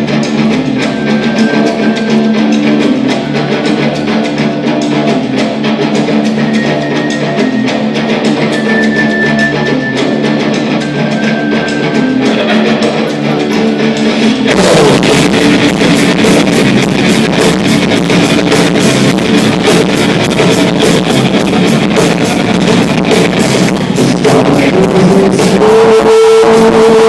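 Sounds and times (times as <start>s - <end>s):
drum kit beat with cymbals: 0.0s - 27.0s
electric guitars: 0.0s - 27.0s.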